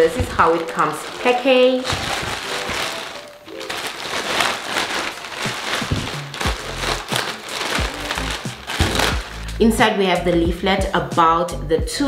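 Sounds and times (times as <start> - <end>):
plastic bag crinkling: 0.0 - 10.4
background music: 0.0 - 12.0.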